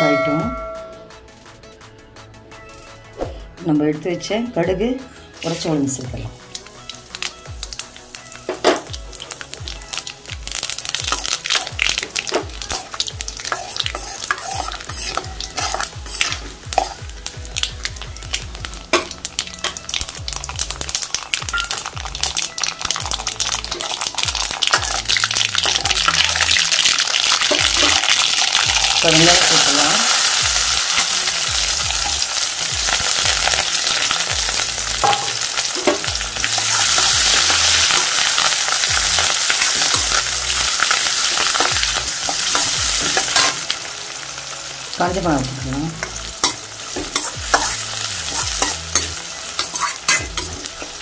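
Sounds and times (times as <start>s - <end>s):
hot oil sizzling: 5.3s - 51.0s.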